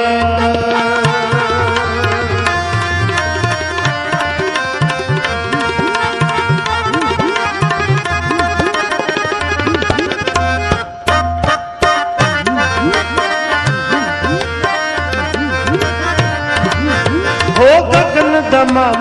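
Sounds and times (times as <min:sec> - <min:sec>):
held melody notes: 0:00.0 - 0:19.0
tabla playing dense rhythm: 0:00.0 - 0:19.0.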